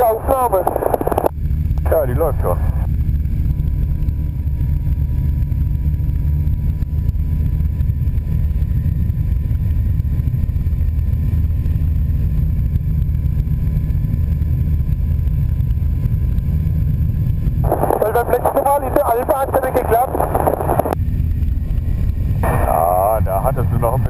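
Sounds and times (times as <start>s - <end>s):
piston aircraft engine drone: 0.0s - 24.0s.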